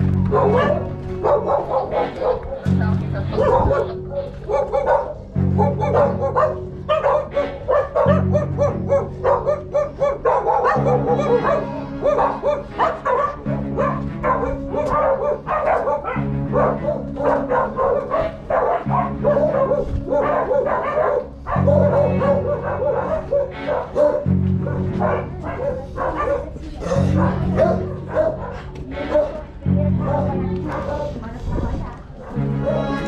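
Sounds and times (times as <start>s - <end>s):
dog barking: 0.0s - 33.0s
music with bass line: 0.0s - 33.0s.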